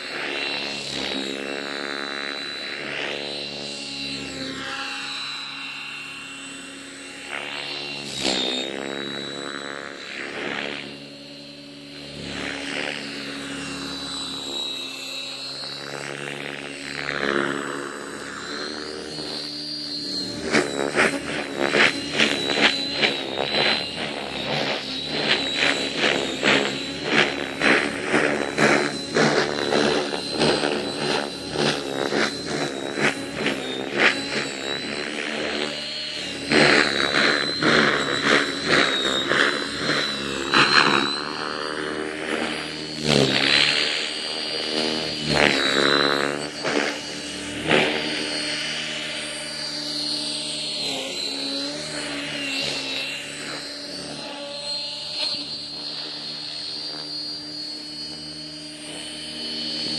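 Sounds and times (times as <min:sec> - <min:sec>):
high-pitched motor whine: 0:00.0 - 0:59.9
rotor blades chopping and swishing: 0:10.3 - 0:59.9.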